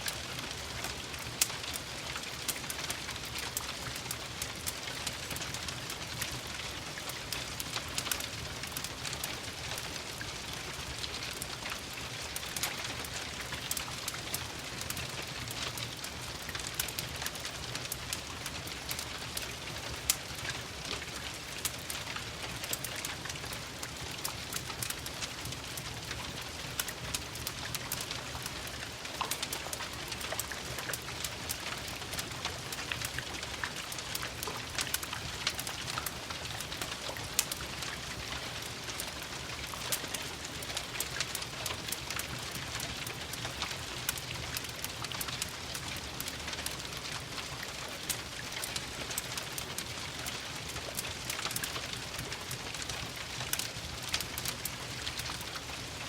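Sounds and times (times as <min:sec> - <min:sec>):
rain pattering on a window: 0:00.0 - 0:56.0
wood fire crackling and popping: 0:00.0 - 0:56.0.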